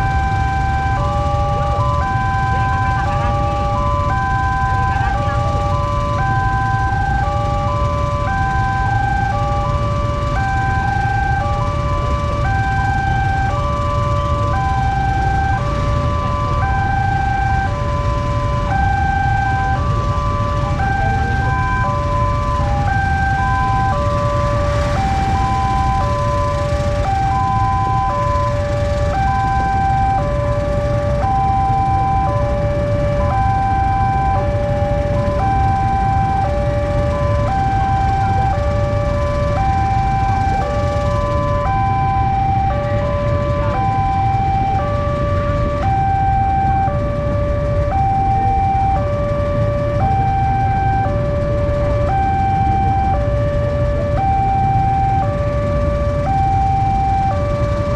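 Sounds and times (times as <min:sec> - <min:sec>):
low engine rumble: 0:00.0 - 0:57.9.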